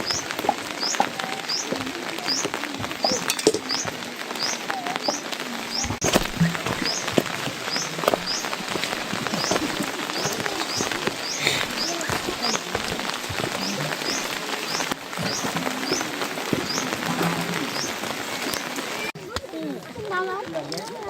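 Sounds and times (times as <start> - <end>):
close drips: 0.0 - 19.2
heavy rain falling: 0.0 - 21.0.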